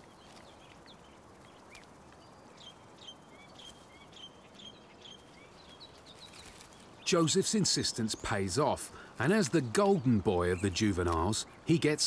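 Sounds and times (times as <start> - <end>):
faint birdsong: 0.0 - 12.0
outdoor background noise: 0.0 - 12.0.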